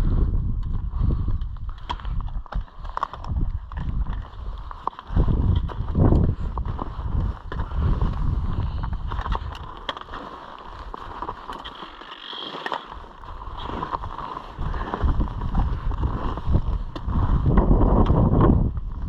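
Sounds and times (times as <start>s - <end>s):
wind buffeting microphone: 0.0s - 9.8s, 13.2s - 19.0s.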